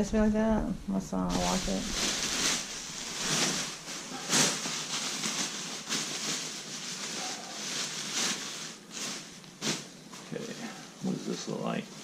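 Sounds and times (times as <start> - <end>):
clothes and bags rustling: 1.3 - 12.0.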